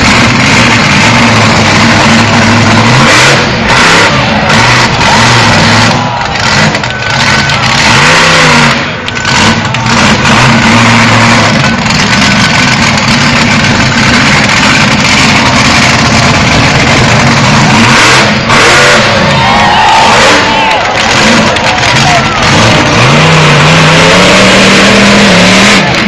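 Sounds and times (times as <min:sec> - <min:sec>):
truck engine revving loudly: 0:00.0 - 0:26.0.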